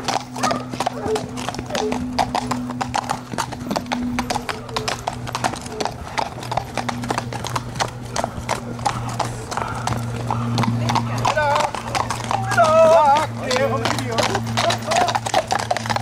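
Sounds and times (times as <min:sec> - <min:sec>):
horses hooves clattering: 0:00.0 - 0:16.0.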